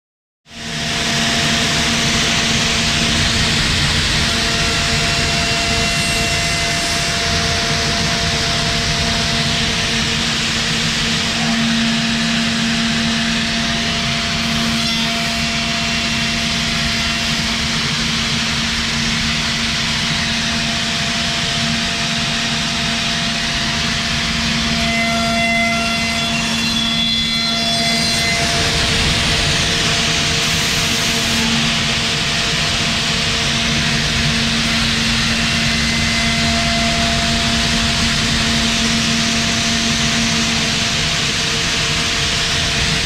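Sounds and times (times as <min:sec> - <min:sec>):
spindle whine: 0:00.5 - 0:43.0.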